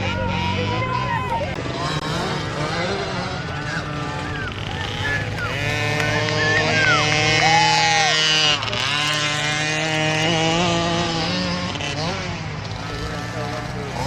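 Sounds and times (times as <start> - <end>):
small dirt bike engines revving: 0.0 - 14.0.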